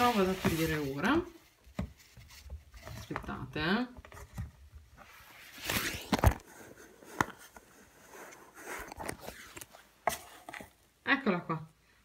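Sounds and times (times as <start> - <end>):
rustling and scraping of box: 0.0 - 3.4, 4.0 - 10.8.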